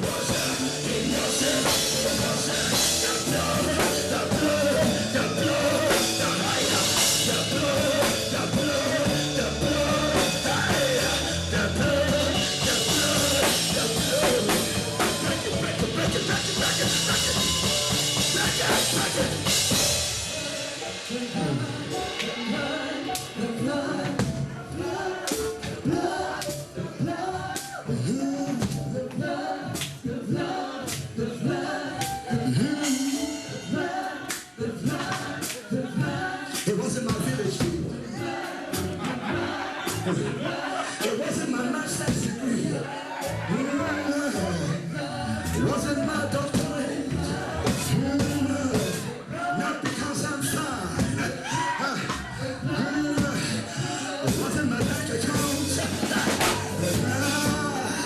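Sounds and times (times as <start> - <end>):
gospel band with drums: 0.0 - 58.0
people singing: 0.0 - 58.0.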